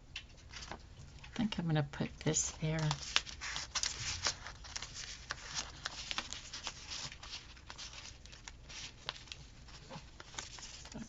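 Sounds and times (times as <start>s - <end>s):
paper crinkling: 0.3s - 1.4s, 2.2s - 11.0s.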